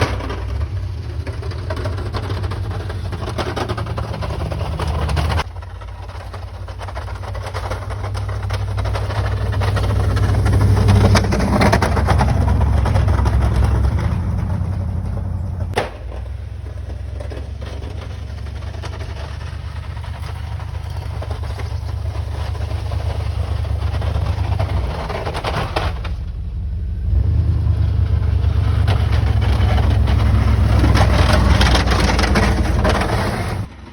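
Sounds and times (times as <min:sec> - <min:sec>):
truck engine running: 0:00.0 - 0:33.9.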